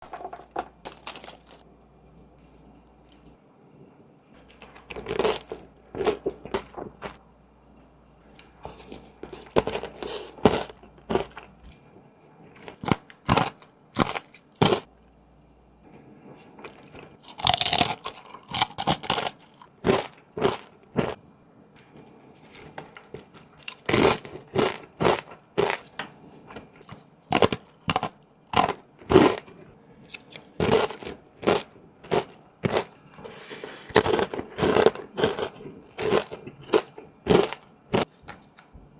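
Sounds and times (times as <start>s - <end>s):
person chewing crunchy food: 0.0s - 1.7s, 4.3s - 7.2s, 8.2s - 14.9s, 16.0s - 21.2s, 21.8s - 38.7s.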